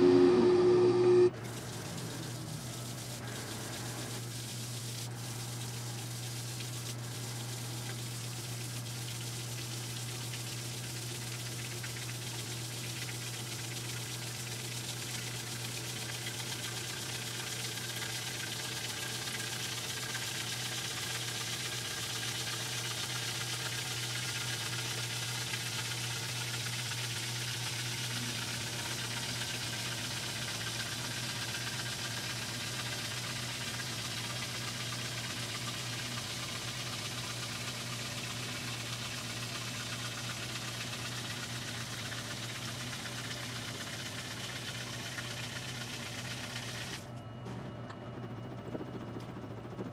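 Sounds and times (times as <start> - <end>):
washing machine motor hum: 0.0 - 49.9
water spraying into tub: 1.2 - 47.0.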